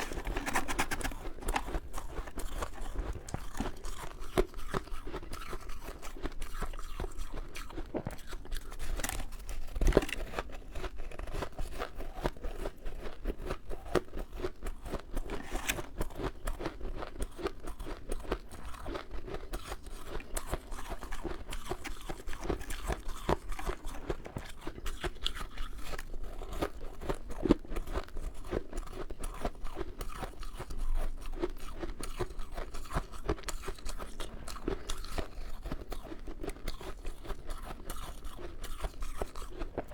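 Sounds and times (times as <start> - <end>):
crunching ice in the mouth: 0.0 - 39.9.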